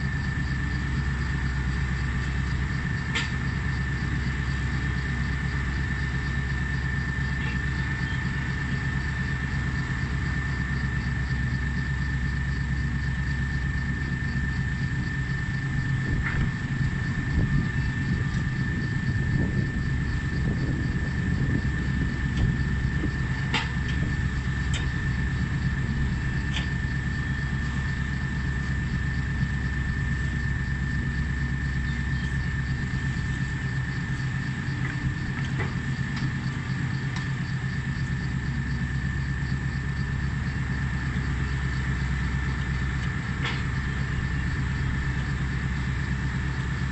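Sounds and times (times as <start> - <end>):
excavator diesel engine droning: 0.0 - 46.9
high-pitched hydraulic whine: 0.0 - 46.9.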